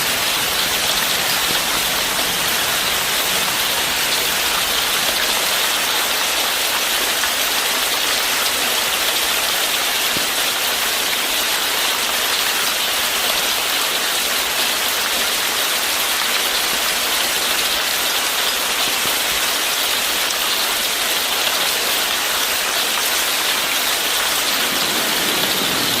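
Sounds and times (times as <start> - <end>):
rushing water hiss: 0.0 - 11.2, 15.8 - 26.0.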